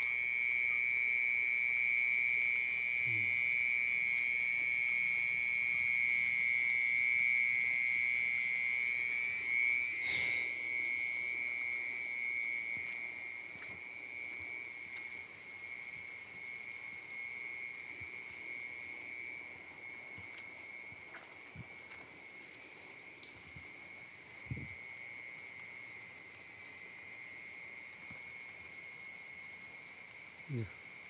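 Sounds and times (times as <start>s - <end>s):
high-pitched cricket trill: 0.0s - 31.0s.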